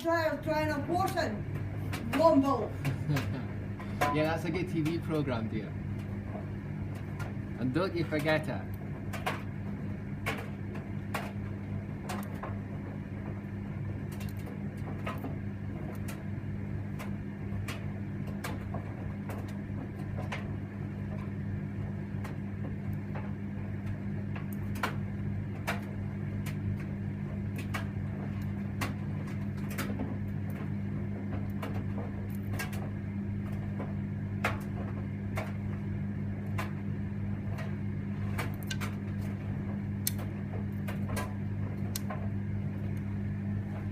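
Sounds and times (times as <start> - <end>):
tumble dryer motor hum: 0.0 - 43.9
washing tumbling in drum: 0.0 - 43.9.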